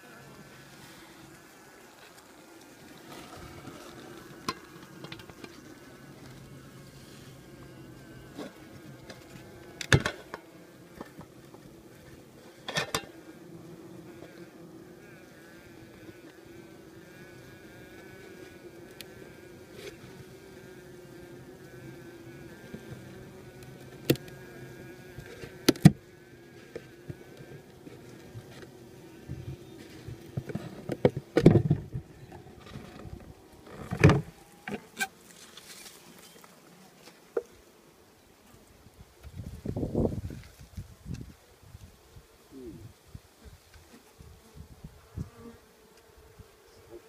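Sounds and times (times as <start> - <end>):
honeybees humming: 0.0 - 47.0.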